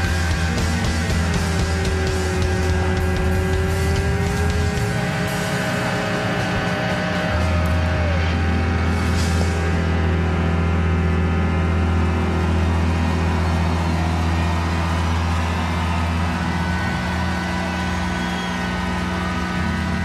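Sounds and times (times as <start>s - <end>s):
rock band sustained low drone: 0.0s - 20.0s.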